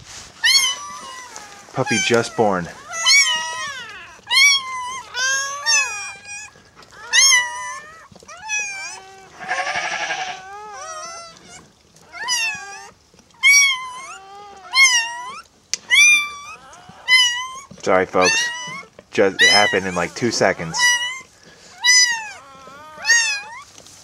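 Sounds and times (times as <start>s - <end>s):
puppy crying with squeaky calls: 0.4s - 23.8s.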